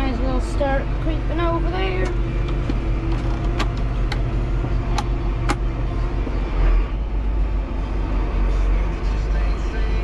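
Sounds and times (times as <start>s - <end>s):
tractor engine droning: 0.0s - 10.0s.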